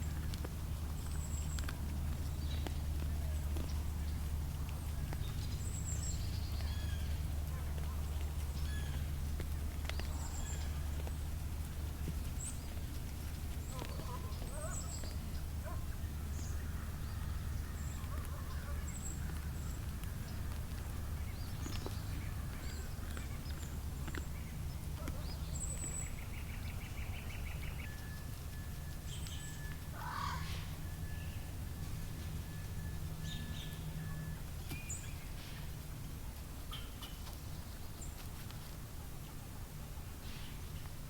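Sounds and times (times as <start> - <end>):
low hum: 0.0 - 38.2.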